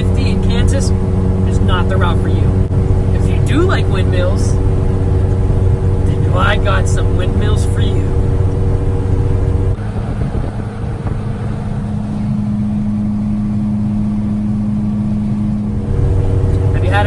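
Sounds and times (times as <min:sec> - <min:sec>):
car engine and road noise drone: 0:00.0 - 0:17.0.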